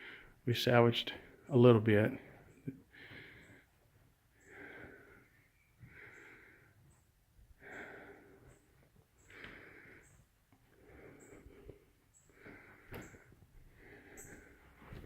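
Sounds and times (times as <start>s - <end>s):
soft breathing: 0.0s - 0.4s, 2.2s - 15.0s.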